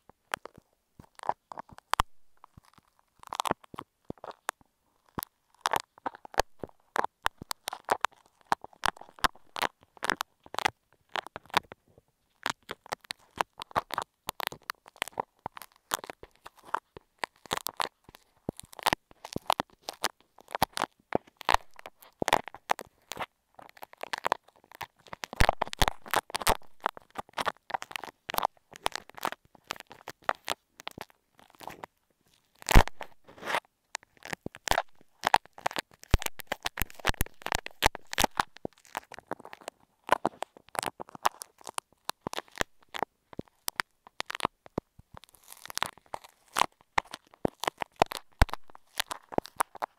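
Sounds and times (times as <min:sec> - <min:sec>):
clay crackling against microphone: 0:00.0 - 0:49.9.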